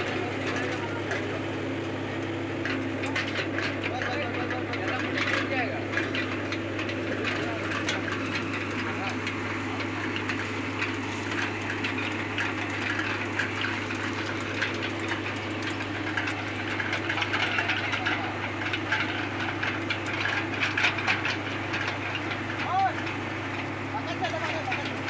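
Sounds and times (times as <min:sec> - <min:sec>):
clicks and clatters: 0:00.0 - 0:25.0
excavator diesel engine running: 0:00.0 - 0:25.0.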